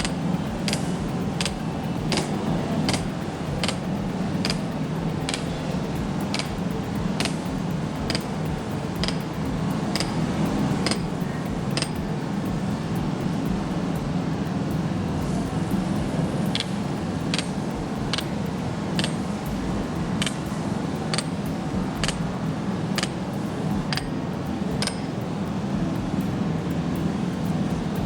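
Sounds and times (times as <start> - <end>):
low rushing noise: 0.0 - 28.0.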